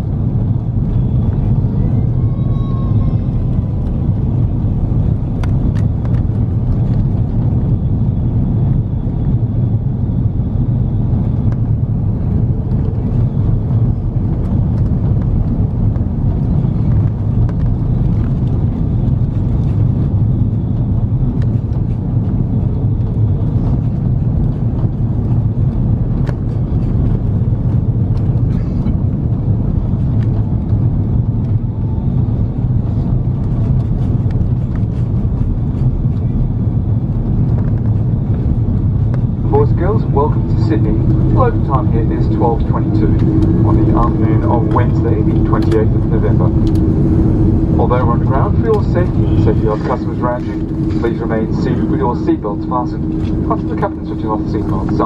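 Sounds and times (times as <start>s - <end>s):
deep rumble of airliner cabin: 0.0s - 55.0s.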